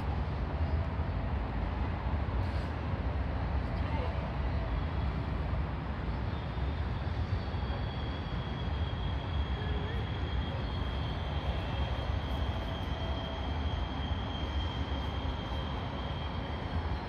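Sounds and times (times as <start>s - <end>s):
faint high whine: 0.0s - 17.0s
low city rumble: 0.0s - 17.0s.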